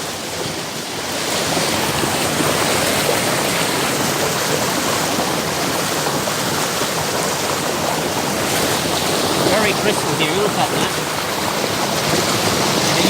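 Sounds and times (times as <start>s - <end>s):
creek rushing over rocks: 0.0s - 13.0s.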